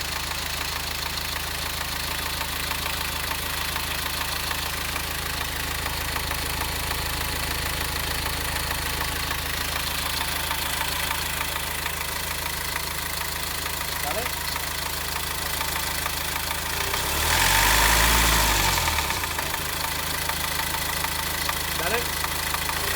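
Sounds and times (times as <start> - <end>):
diesel engine idling clatter: 0.0 - 22.9.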